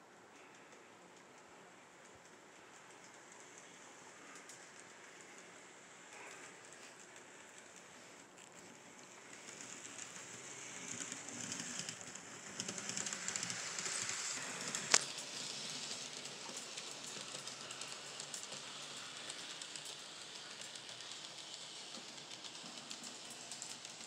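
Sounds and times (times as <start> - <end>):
model train wheels rattling: 0.2 - 24.0.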